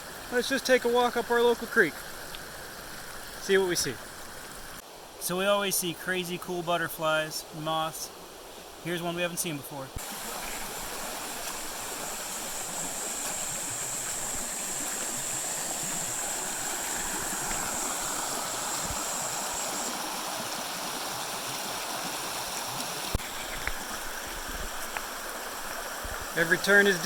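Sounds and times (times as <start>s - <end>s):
creek water flowing: 0.0s - 27.0s.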